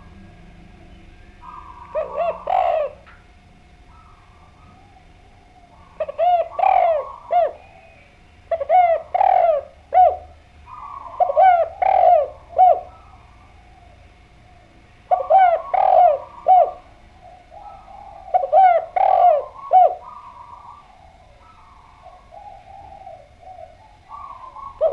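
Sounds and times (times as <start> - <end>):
dove cooing: 0.0 - 24.9.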